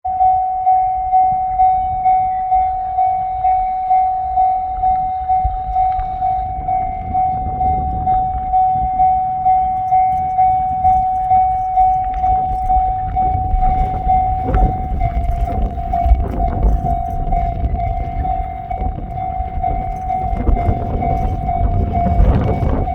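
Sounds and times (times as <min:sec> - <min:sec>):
railroad crossing warning bell: 0:00.0 - 0:22.9
low rumble: 0:00.2 - 0:22.9.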